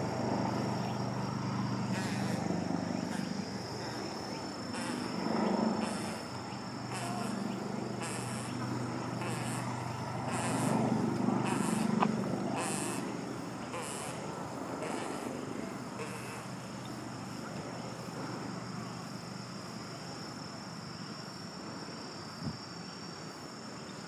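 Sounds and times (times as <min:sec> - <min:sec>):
high hissy rustles: 0:00.0 - 0:20.0
low mechanical hum: 0:00.0 - 0:24.0.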